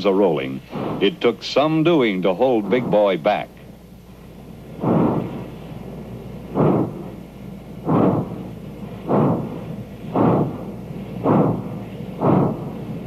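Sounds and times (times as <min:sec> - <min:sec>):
steam locomotive exhaust chuffs: 0:00.0 - 0:13.0.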